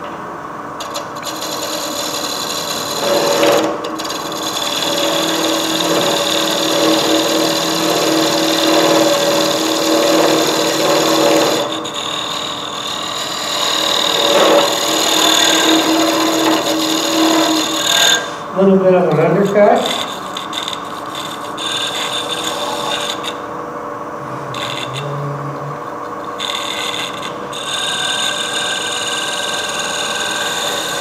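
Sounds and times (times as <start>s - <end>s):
lathe motor hum: 0.7s - 31.0s
tool scraping spinning wood: 0.8s - 23.5s, 24.2s - 31.0s.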